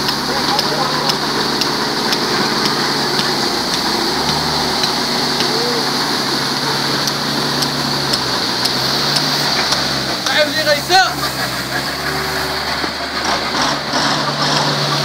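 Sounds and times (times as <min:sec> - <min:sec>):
gravel pouring from truck bed: 0:00.0 - 0:15.0
truck engine running: 0:00.0 - 0:15.0.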